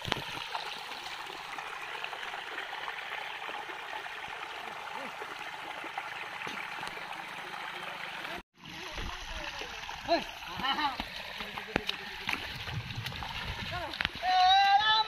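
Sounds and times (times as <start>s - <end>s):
water running through a channel: 0.0s - 15.0s.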